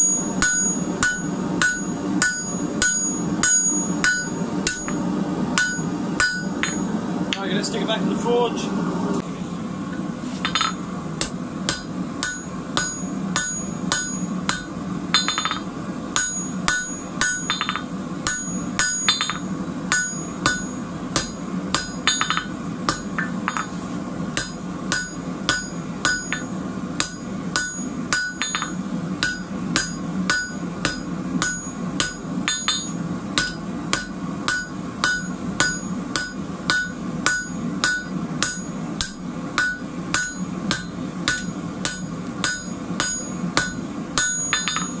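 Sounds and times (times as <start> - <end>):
hammer striking metal on anvil: 0.0 - 5.0, 5.6 - 6.9, 10.4 - 23.7, 24.4 - 45.0
steady low hum: 0.0 - 45.0.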